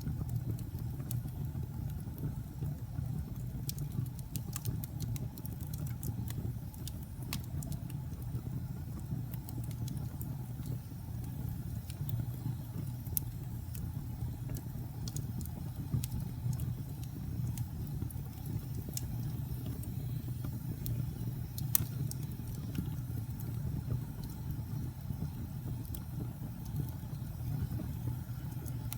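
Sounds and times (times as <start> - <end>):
fire crackles and pops: 0.0 - 28.9
low rumble of flames: 0.0 - 28.9.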